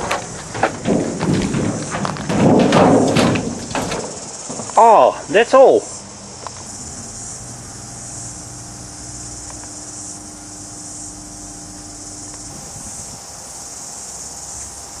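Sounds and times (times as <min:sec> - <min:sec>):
faint low hum: 0:00.0 - 0:13.4
crickets chirring: 0:00.0 - 0:15.0.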